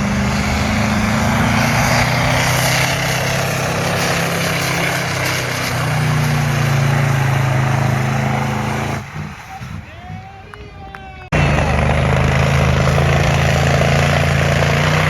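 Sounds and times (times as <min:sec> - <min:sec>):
tractor engine droning under load: 0:00.0 - 0:15.0.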